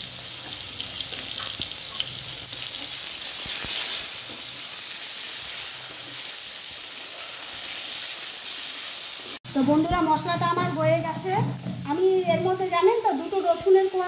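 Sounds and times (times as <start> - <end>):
potato wedges sizzling in oil: 0.0 - 14.0.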